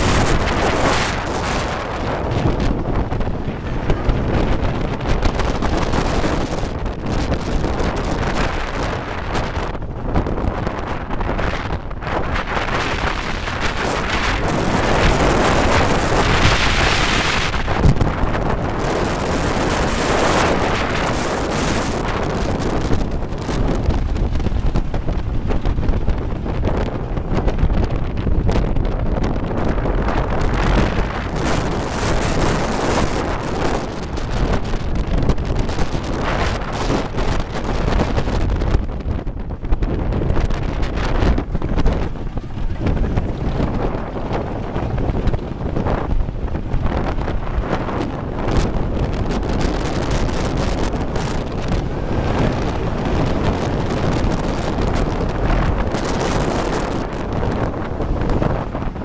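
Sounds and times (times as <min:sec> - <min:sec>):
roller coaster wheels clattering: 0:00.0 - 0:59.0
wind rushing over microphone: 0:00.0 - 0:59.0.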